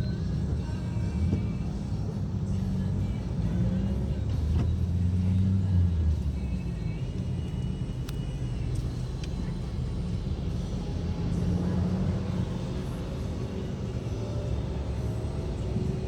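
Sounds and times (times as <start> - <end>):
vehicle rumbling along road: 0.0 - 16.0.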